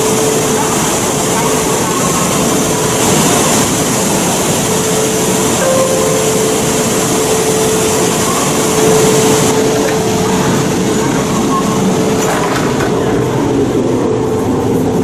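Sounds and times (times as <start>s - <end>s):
train running at speed: 0.0s - 15.0s.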